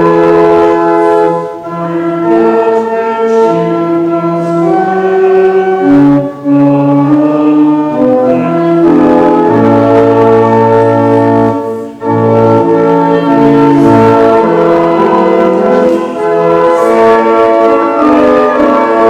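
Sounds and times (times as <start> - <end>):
pipe organ chords: 0.0 - 19.0.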